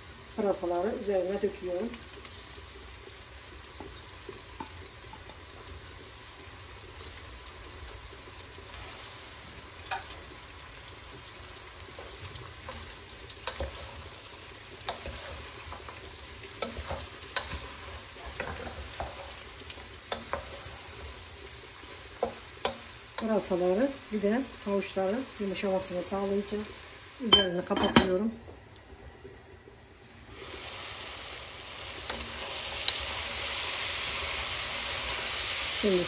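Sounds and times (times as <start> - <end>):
vegetables sizzling in a pot: 0.0 - 36.0.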